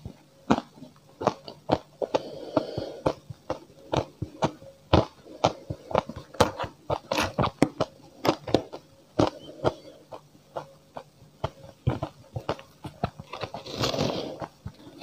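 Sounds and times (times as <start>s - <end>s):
crunchy chewing of ice: 0.4s - 15.0s.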